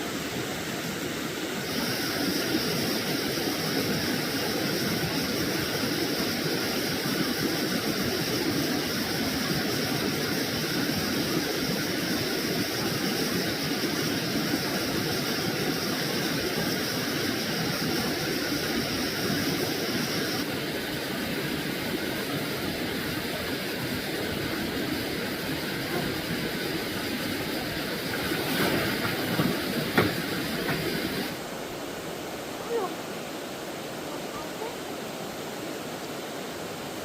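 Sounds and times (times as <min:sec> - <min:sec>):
high-pitched hiss: 0:00.0 - 0:37.0
stream water rushing: 0:00.0 - 0:37.0.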